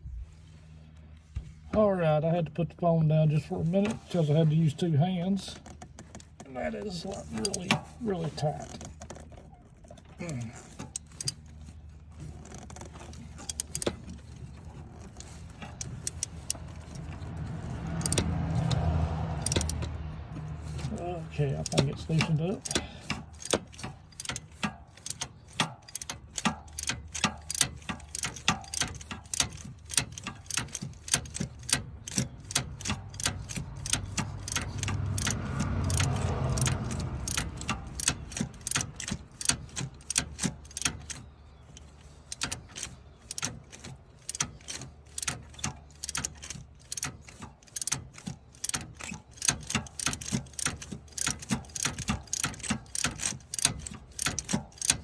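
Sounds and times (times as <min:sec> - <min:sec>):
socket ratchet clicking: 0:08.6 - 0:55.0.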